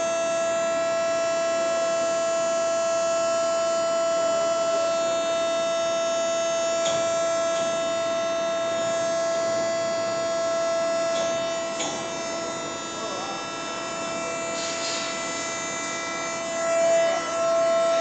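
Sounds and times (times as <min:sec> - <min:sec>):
induction furnace electrical whine: 0:00.0 - 0:18.0.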